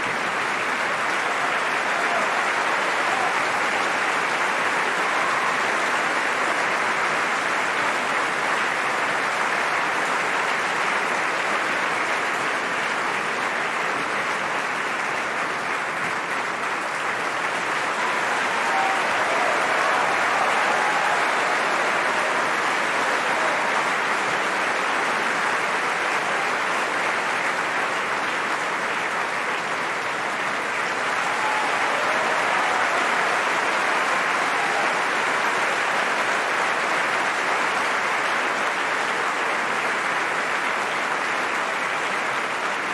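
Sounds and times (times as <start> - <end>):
audience applauding: 0.0 - 42.9.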